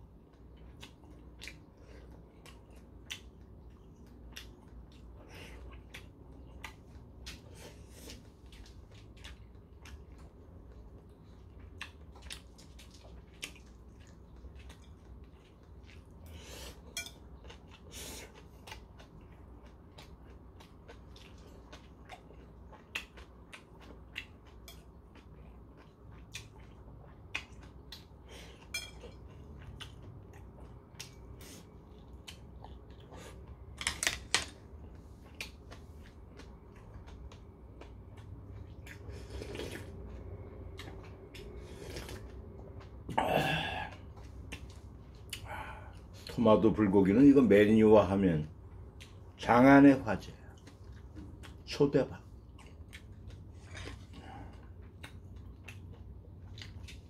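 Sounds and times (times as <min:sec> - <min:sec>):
quiet chewing: 0:00.0 - 0:33.9, 0:34.7 - 0:46.7, 0:48.5 - 0:57.0.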